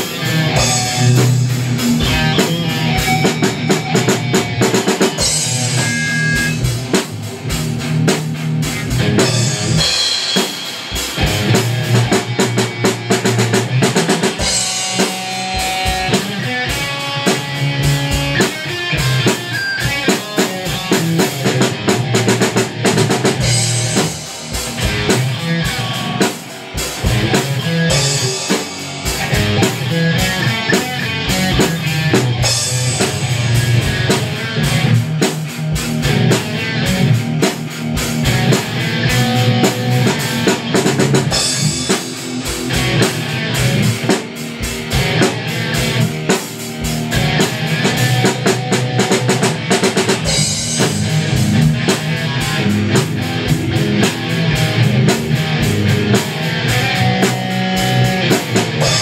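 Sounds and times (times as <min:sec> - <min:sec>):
drum kit beat: 0:00.0 - 0:59.0
electric guitars: 0:00.0 - 0:59.0
rock band playing: 0:00.0 - 0:59.0.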